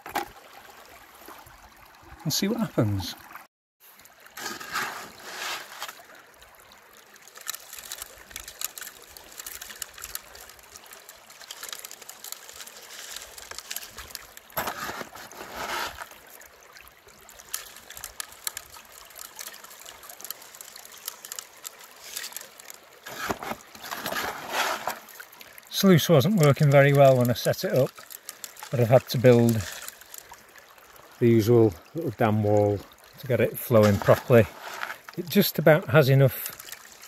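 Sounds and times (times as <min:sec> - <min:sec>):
water running through sluice box: 0:00.0 - 0:37.0
gravel ticking and rattling: 0:07.1 - 0:37.0.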